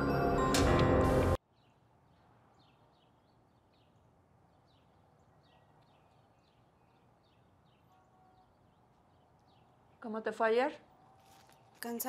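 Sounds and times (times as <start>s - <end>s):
small birds chirping faintly: 1.4s - 12.0s.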